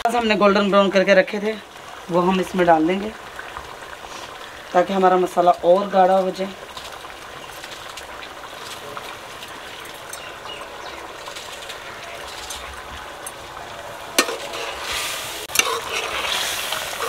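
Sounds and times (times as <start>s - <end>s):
sauce sizzling in pot: 0.1s - 17.0s.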